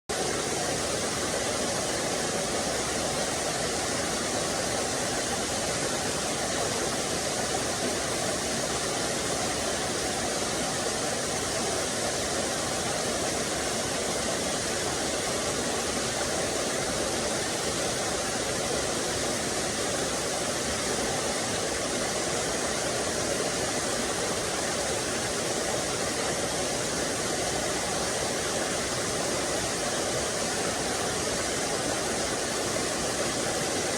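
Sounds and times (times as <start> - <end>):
small waterfall splashing: 0.1 - 33.9.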